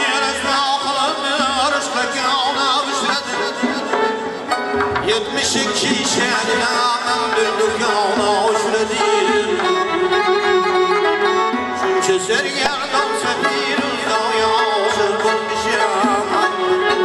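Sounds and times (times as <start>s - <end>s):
bowed fiddle melody: 0.0s - 17.0s
frame drum beat: 0.0s - 17.0s
long-necked lute: 0.0s - 17.0s.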